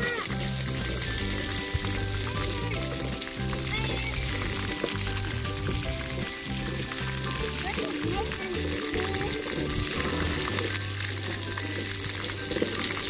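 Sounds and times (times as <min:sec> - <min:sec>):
music playing: 0:00.0 - 0:13.0
water jets spraying: 0:00.0 - 0:13.0.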